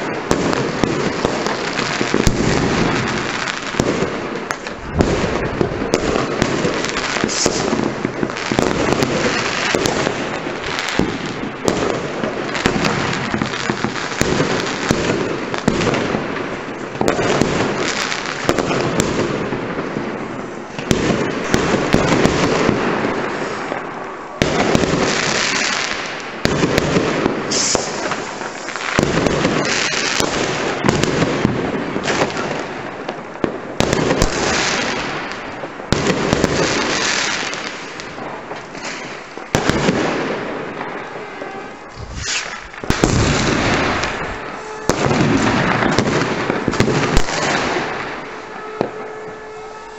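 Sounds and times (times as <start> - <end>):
sharp firework cracks: 0.0 - 20.0, 20.6 - 33.2, 33.8 - 49.0
fireworks bangs and crackling: 0.0 - 49.9.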